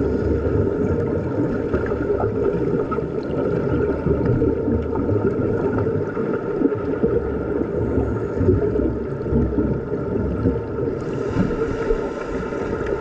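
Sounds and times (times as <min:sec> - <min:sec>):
muffled underwater water swishing: 0:00.0 - 0:13.0
underwater bubbling: 0:00.0 - 0:13.0.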